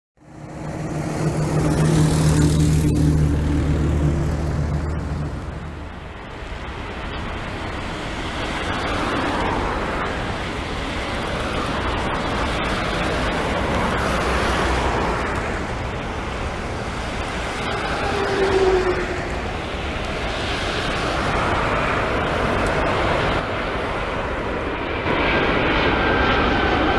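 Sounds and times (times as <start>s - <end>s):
jet engines rushing: 0.2s - 26.9s
road traffic hum: 0.2s - 26.9s.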